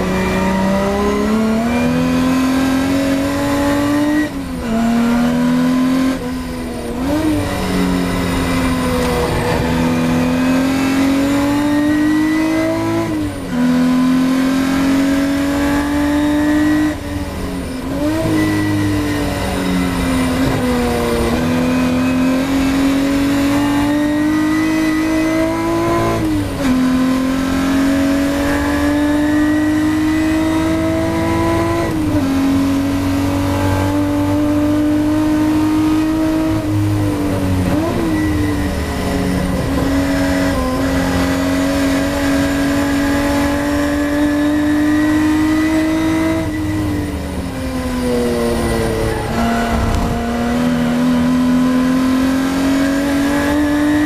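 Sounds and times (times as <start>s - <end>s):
race car engine at full throttle: 0.0s - 54.0s.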